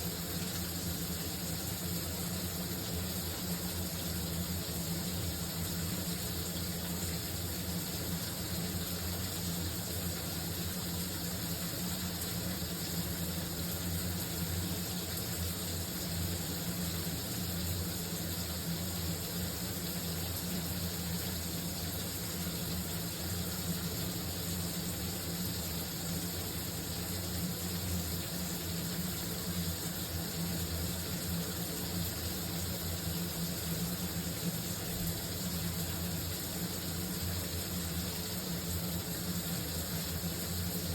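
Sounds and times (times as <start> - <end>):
shower spraying water: 0.0 - 40.9.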